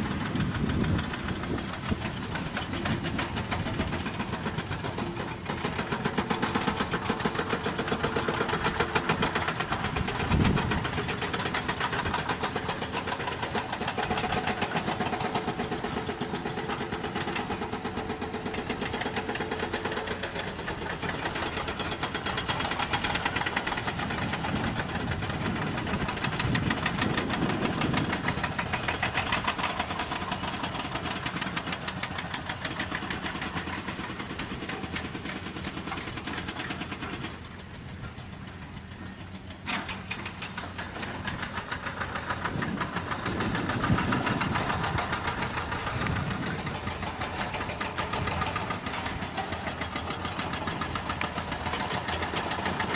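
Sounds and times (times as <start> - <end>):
diesel truck engine running: 0.0 - 52.9.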